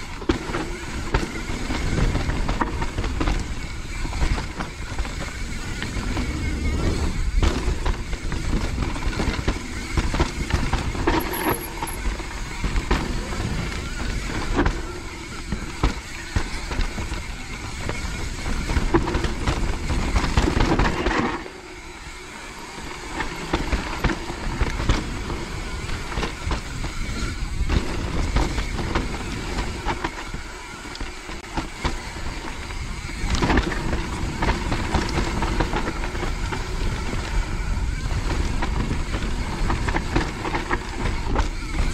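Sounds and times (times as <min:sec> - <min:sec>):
bike knocking and rattling: 0:00.0 - 0:41.9
wind and tyres rushing: 0:00.0 - 0:41.9.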